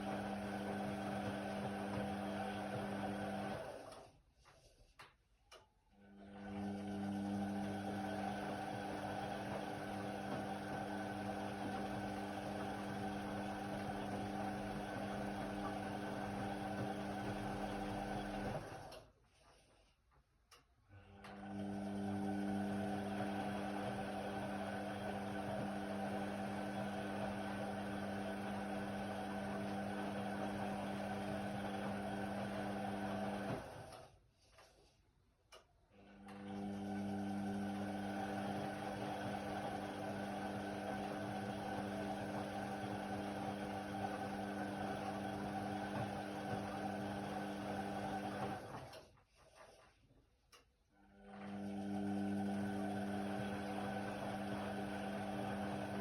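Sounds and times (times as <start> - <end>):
washing machine drum motor humming: 0.0 - 3.9, 6.2 - 19.0, 21.1 - 34.0, 36.0 - 49.0, 51.2 - 56.0.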